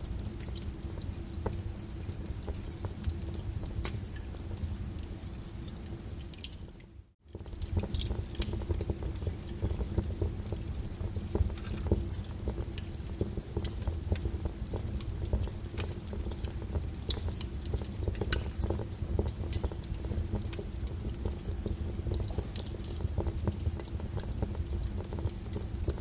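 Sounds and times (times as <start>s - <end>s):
fire popping and snapping: 0.0s - 26.0s
low rumble of flames: 0.0s - 26.0s.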